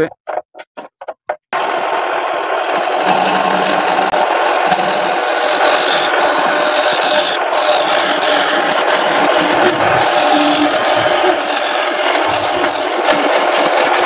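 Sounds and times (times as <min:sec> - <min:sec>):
wood lathe spinning: 0:01.6 - 0:14.0
chisel scraping turning wood: 0:02.7 - 0:14.0.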